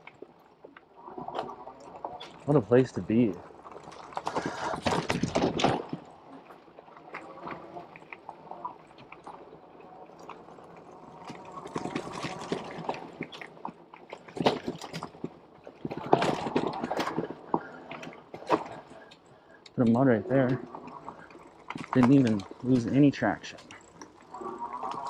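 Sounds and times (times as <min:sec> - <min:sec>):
bike clicks and knocks: 0:00.0 - 0:25.0
bike tires rolling on muddy trail: 0:00.0 - 0:25.0.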